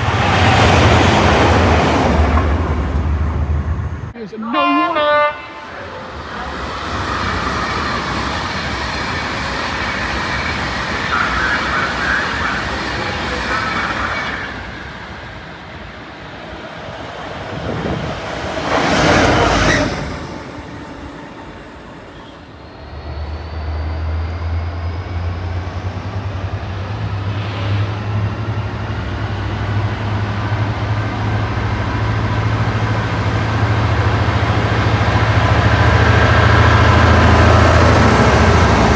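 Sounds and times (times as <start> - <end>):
locomotive engine droning: 0.0 - 38.9
train rushing past: 0.0 - 38.9.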